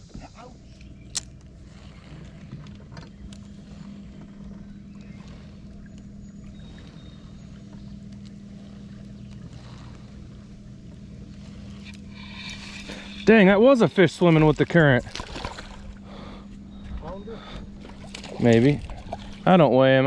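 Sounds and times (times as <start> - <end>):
electric trolling motor humming: 0.0 - 20.0.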